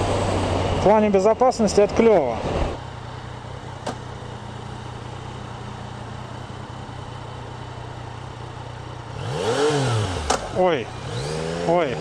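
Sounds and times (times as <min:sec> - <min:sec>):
motorcycle engine revving: 0:02.4 - 0:12.0.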